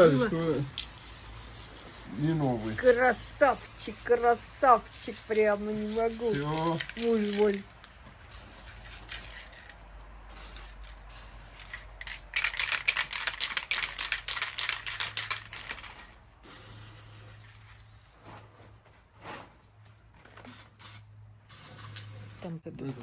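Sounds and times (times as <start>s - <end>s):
spray paint can hissing: 0.0s - 7.7s, 8.3s - 17.8s, 20.5s - 22.5s.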